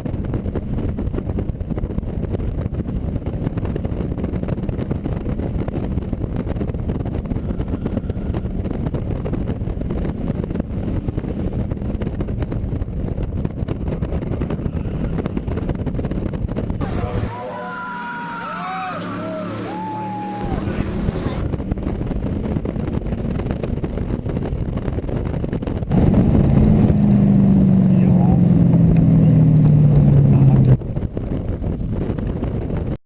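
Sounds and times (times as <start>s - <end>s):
car engine running: 0.0s - 32.9s
wind noise on microphone: 0.0s - 33.0s.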